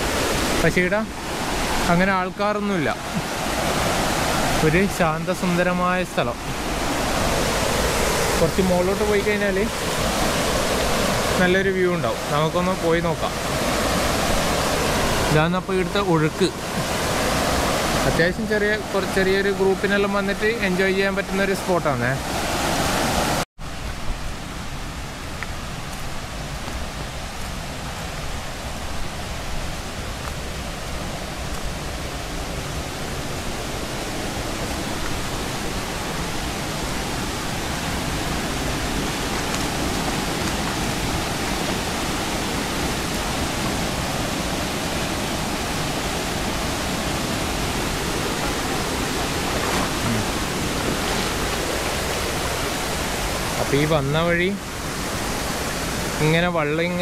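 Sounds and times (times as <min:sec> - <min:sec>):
water rushing in rocky stream: 0:00.0 - 0:57.0.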